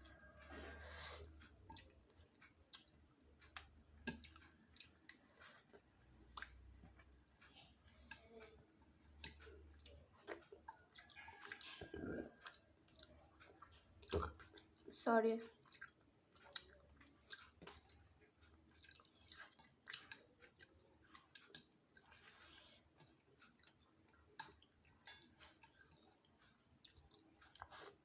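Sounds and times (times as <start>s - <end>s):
person chewing food: 0.0s - 14.9s, 15.5s - 28.0s.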